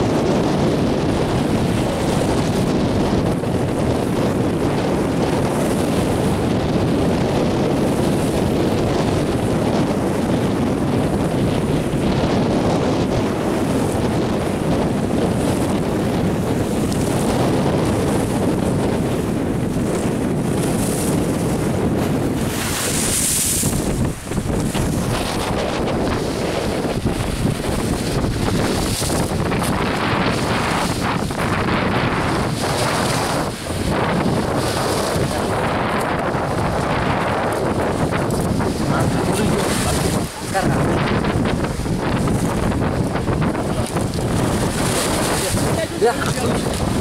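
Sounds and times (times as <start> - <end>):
river waves splashing: 0.0 - 47.0
wind buffeting microphone: 0.0 - 47.0.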